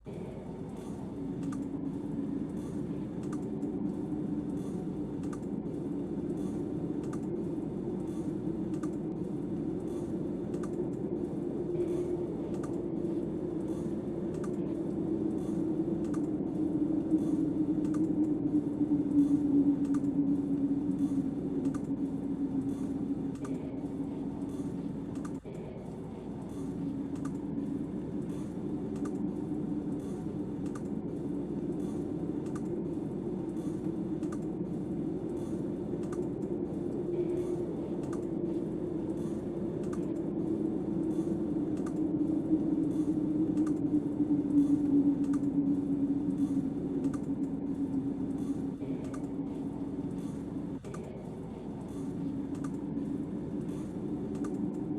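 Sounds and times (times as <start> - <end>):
wind moaning: 0.0 - 54.9
light regular clicks: 0.7 - 1.8, 2.5 - 54.9.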